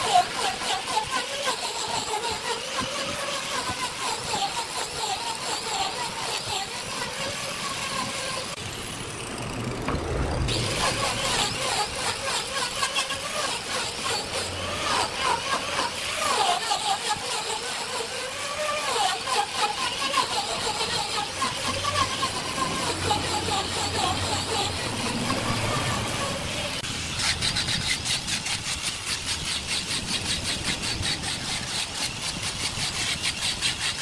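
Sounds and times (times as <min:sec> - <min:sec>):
angle grinder grinding wood: 0:00.0 - 0:34.0.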